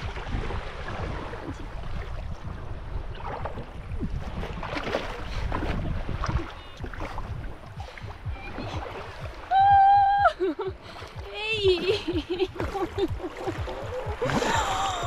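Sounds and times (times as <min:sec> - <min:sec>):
seawater sloshing and splashing: 0:00.0 - 0:15.0
wading splashes: 0:00.0 - 0:15.0
wind buffeting microphone: 0:00.0 - 0:15.0.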